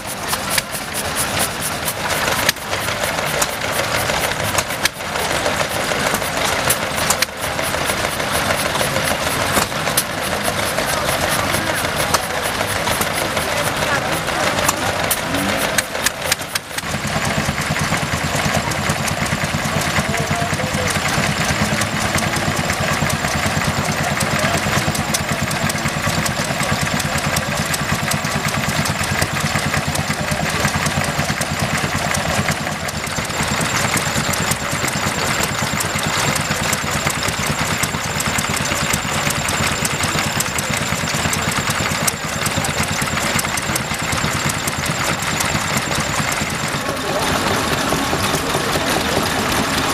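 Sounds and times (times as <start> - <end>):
small stationary engines running: 0.0 - 49.9.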